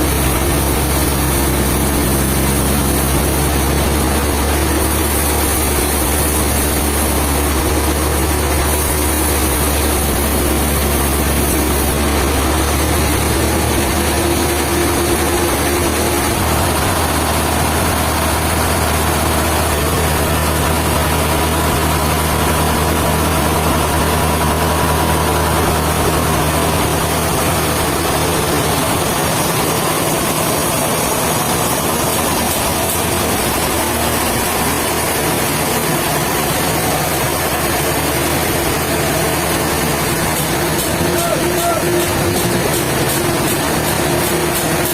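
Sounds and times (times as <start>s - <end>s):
heavy machinery humming: 0.0s - 44.9s.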